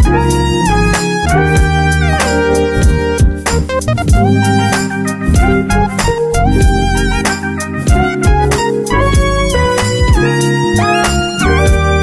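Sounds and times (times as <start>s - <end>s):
background music with drum beat: 0.0s - 0.4s, 1.0s - 12.0s.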